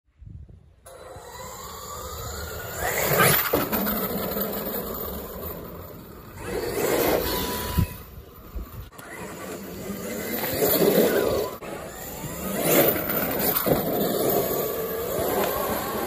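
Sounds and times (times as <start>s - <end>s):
electric motor whining: 0.9s - 16.0s.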